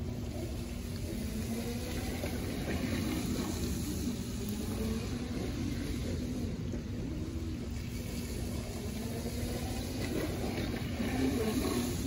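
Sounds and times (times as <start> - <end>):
wind and rain rumble: 0.0 - 12.0.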